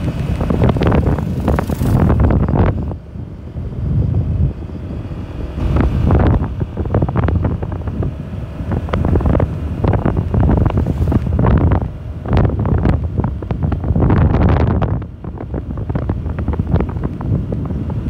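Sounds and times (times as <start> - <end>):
wind blasting microphone: 0.0 - 18.0.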